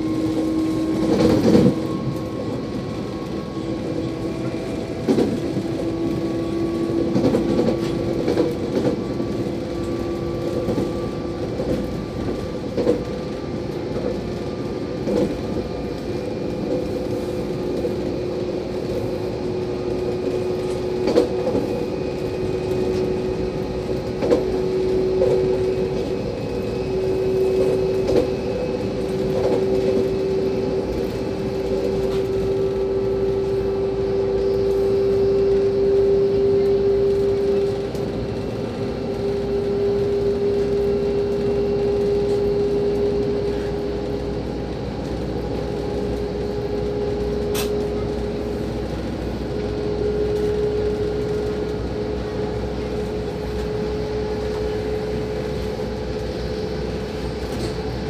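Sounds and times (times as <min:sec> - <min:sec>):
train rolling rumble: 0:00.0 - 0:58.0.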